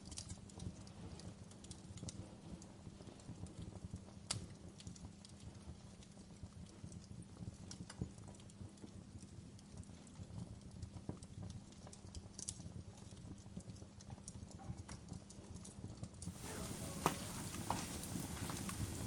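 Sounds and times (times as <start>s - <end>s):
wood fire crackling: 0.0s - 14.4s, 16.2s - 19.0s.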